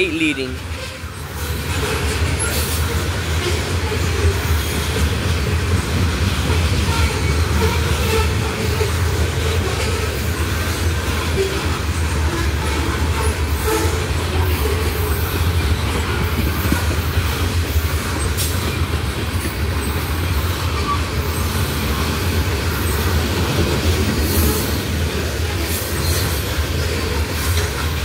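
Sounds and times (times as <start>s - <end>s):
freight train wheels rumbling: 0.0s - 28.0s
wheels clicking over rail joints: 0.6s - 28.0s.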